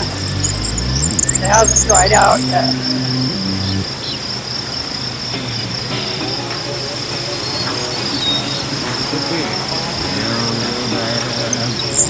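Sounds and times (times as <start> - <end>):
all-terrain vehicle engine hum: 0.0 - 12.0
high-pitched whine: 0.0 - 12.0.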